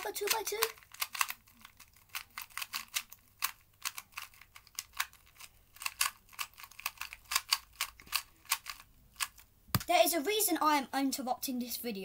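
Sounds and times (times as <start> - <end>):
puzzle cube layers clicking: 0.0 - 9.9.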